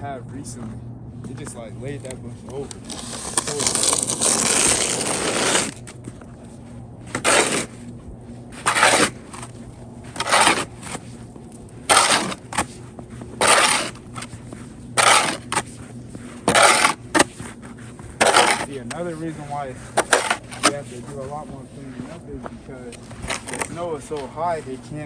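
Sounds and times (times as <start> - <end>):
faint low hum: 0.0 - 25.0
footsteps crunching in snow: 1.2 - 25.0.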